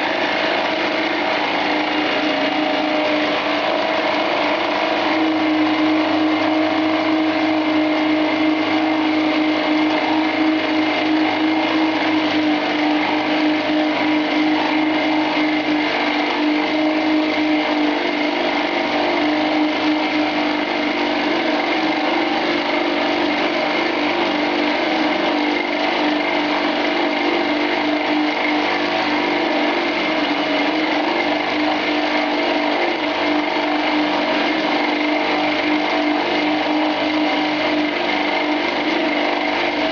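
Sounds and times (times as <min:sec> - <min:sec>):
lathe machine whine: 0:00.0 - 0:39.9
metal cutting noise: 0:00.0 - 0:39.9.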